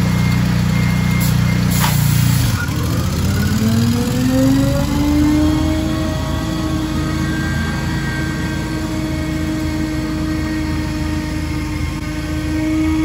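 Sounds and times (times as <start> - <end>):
leaf blower engine and fan whine: 0.0 - 13.0.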